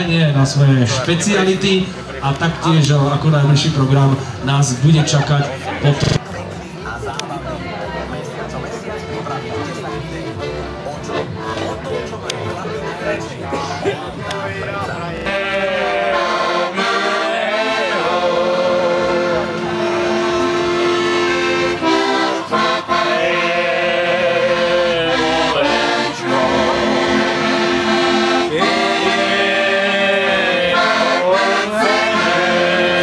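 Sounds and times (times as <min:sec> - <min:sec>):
accordion music: 0:00.0 - 0:33.0.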